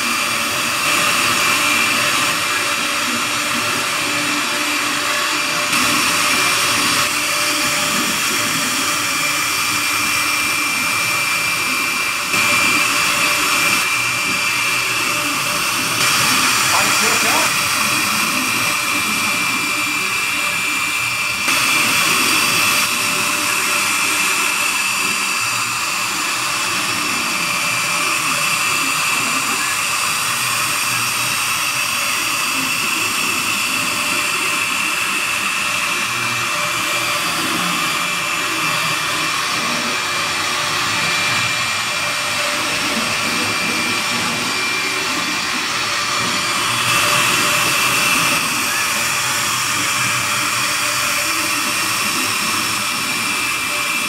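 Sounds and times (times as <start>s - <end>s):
engraving bit carving wood: 0.0s - 54.0s
router spindle whine: 0.0s - 54.0s.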